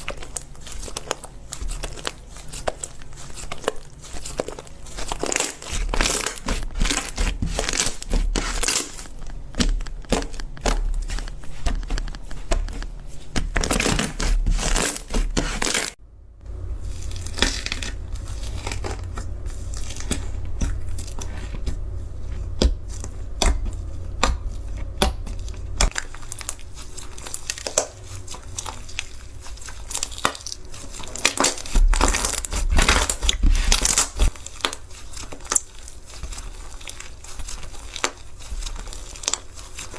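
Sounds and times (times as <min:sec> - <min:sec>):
slime squeezed crackling: 0:00.0 - 0:39.9.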